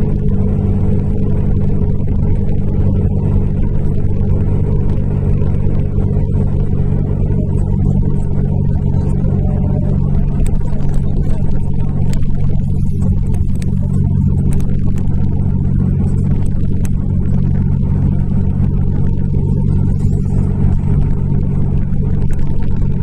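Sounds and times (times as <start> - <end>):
bus engine drone: 0.0 - 23.0
faint clicks and rattles: 0.0 - 23.0
tyre and road noise: 0.0 - 23.0.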